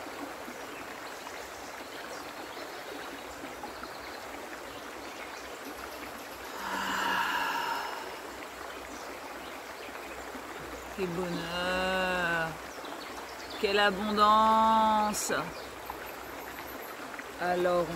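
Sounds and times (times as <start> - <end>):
stream flowing over stones: 0.0 - 17.9.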